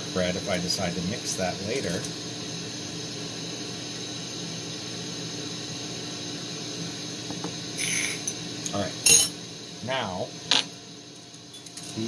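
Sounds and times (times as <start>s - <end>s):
torch hissing: 0.0s - 11.1s.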